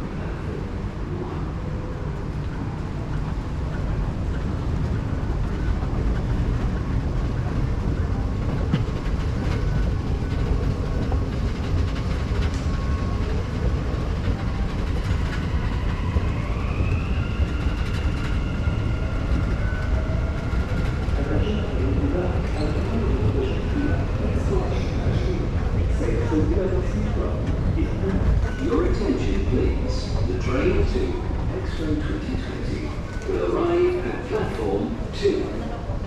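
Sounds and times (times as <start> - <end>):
train low rumble: 0.0 - 36.0.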